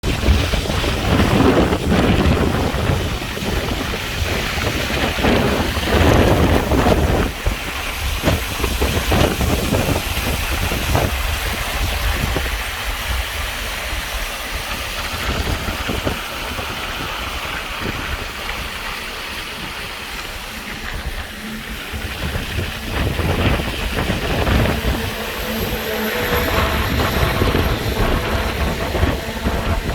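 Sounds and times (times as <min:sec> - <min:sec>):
train rumbling by: 0:00.0 - 0:29.9
wind buffeting microphone: 0:00.0 - 0:29.9.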